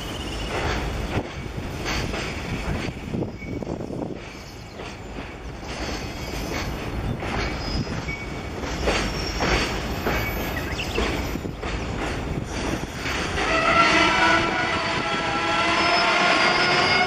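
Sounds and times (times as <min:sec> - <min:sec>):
wheels clacking over rail joints: 0:00.0 - 0:14.4
train rumbling over bridge: 0:00.0 - 0:17.0.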